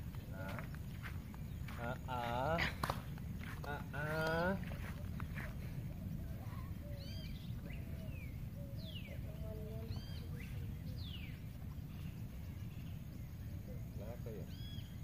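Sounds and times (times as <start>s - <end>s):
birds calling high notes: 0.0s - 15.0s.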